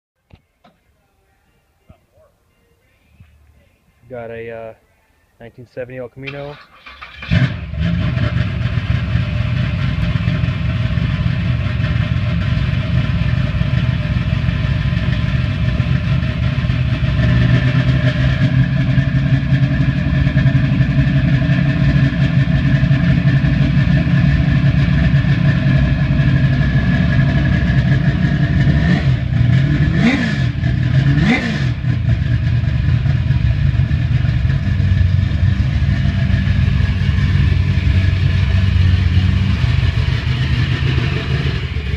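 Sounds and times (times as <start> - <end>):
car engine idling: 2.0 - 41.9
engine revving: 6.5 - 41.9.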